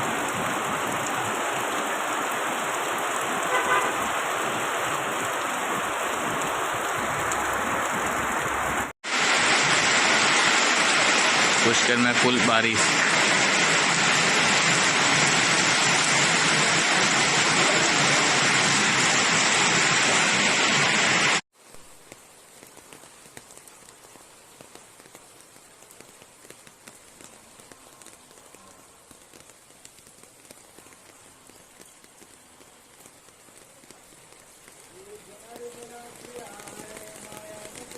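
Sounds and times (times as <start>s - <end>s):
heavy rain hissing: 0.0s - 37.9s
raindrops pattering: 0.0s - 37.9s.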